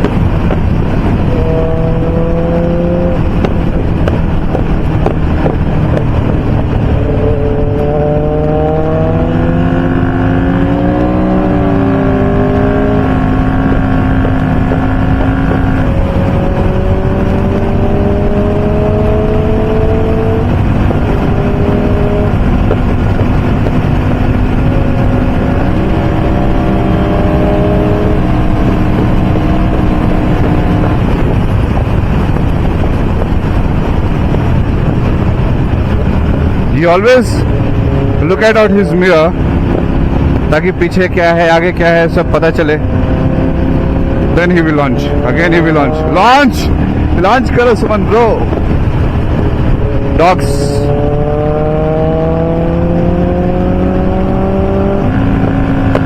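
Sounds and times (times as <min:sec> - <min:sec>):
motorcycle engines accelerating: 0:00.0 - 0:56.0
wind noise: 0:00.0 - 0:56.0.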